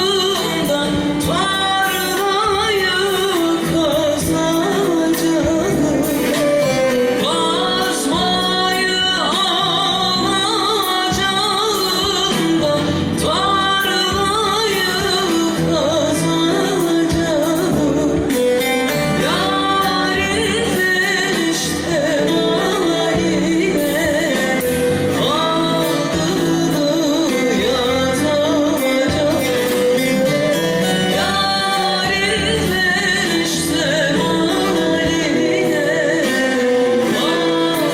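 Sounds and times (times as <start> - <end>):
instrumental accompaniment: 0.0 - 37.9
woman singing folk song: 0.0 - 37.9.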